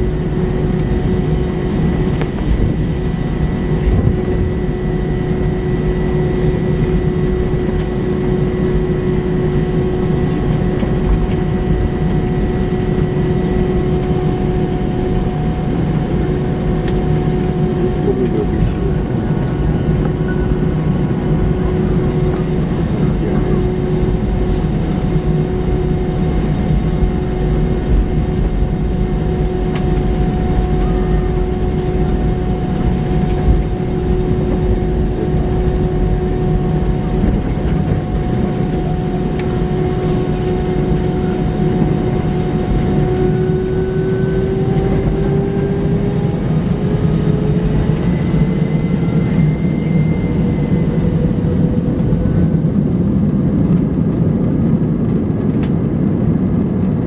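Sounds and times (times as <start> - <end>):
jet engines rumbling and whining: 0.0 - 57.0.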